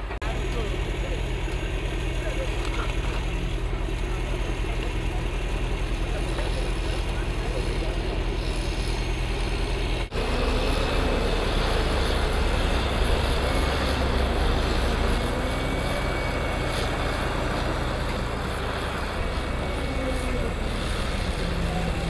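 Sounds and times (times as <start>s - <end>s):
truck engine rumble: 0.0s - 22.0s.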